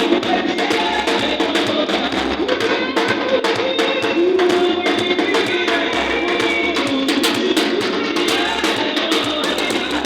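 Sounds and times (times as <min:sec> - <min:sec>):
drum kit steady beat: 0:00.0 - 0:10.0.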